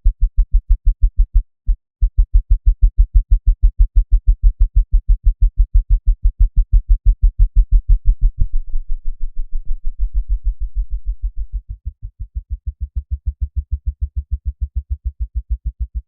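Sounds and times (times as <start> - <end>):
synthesized deep bounce thumps: 0.0 - 16.0.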